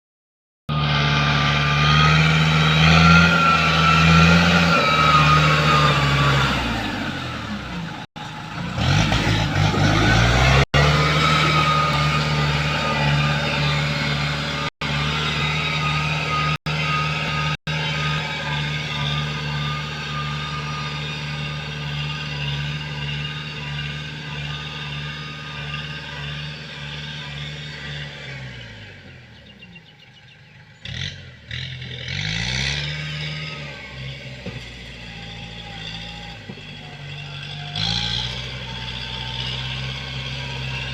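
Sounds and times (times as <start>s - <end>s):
tractor engine humming: 0.7s - 40.9s.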